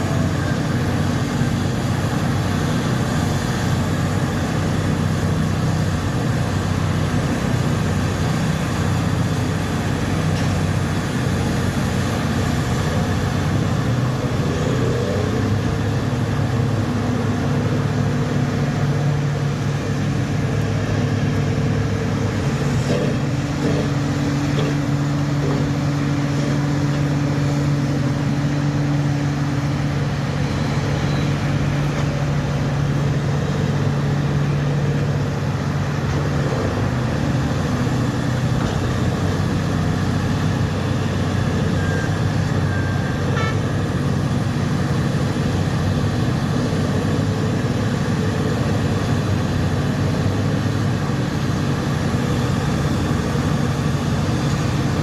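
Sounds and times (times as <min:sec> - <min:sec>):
heavy diesel engines droning: 0:00.0 - 0:55.0.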